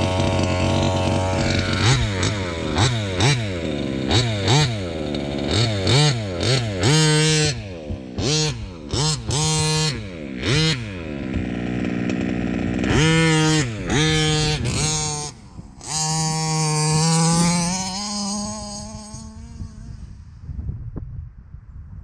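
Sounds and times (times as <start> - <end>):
small two-stroke engine revving: 0.0 - 20.4.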